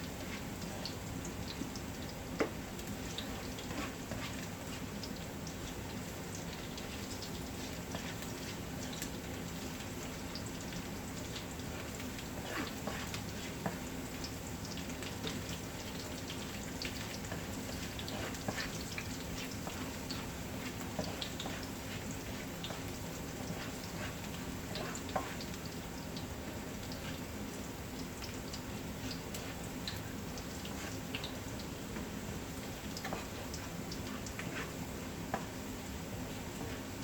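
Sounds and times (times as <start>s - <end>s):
garlic sizzling in oil: 0.0s - 37.0s.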